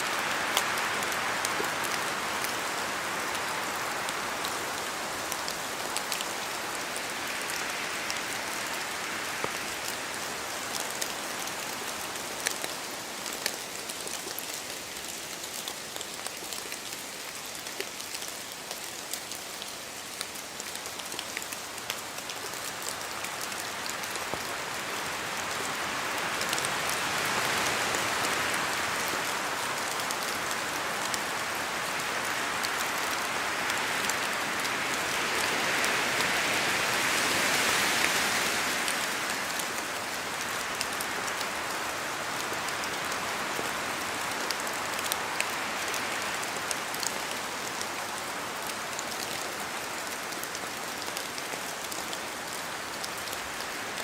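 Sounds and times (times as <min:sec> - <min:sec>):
rain in forest: 0:00.0 - 0:54.0
wind: 0:00.0 - 0:54.0.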